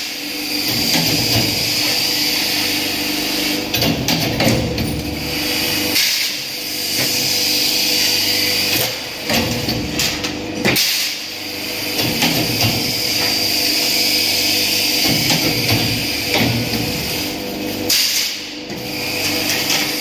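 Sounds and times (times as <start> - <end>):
machine running steadily: 0.0 - 20.0.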